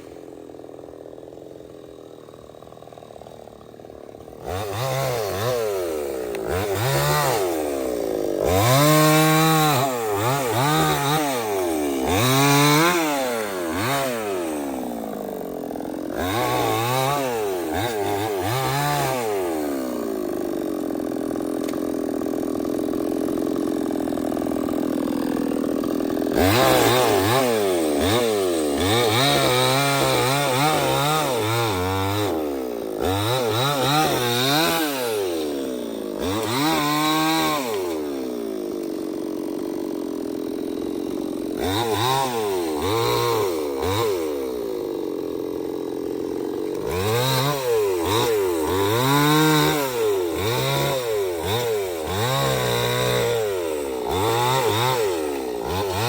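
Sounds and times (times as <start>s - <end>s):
chainsaw cutting wood: 0.0s - 56.0s
chainsaw revving: 0.0s - 56.0s.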